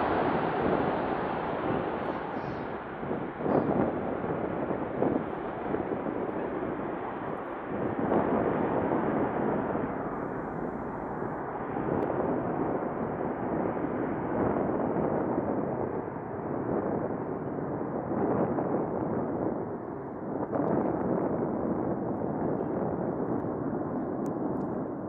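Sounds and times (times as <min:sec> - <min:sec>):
deep jet engine rumble: 0:00.0 - 0:25.0.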